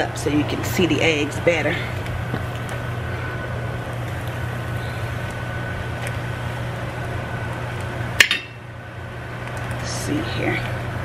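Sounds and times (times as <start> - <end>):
low hum with hiss: 0.0 - 11.0.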